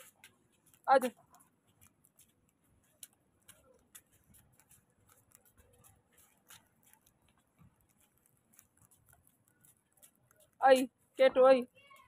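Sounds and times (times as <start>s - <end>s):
faint clicks and ticks: 0.0s - 12.0s.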